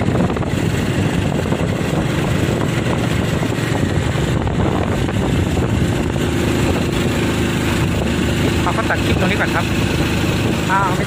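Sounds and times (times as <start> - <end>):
vehicle driving on road: 0.0 - 11.0
wind rumbling on microphone: 0.0 - 11.0.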